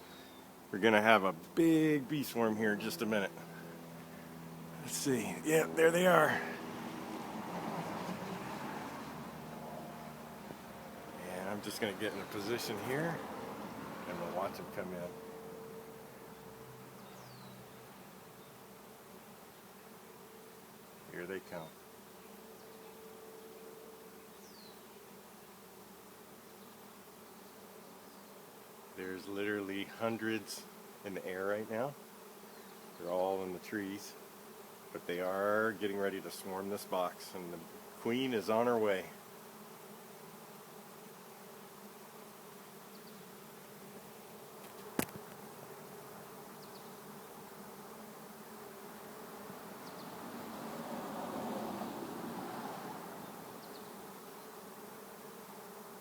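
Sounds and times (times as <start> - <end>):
bees buzzing hum: 0.0 - 56.0.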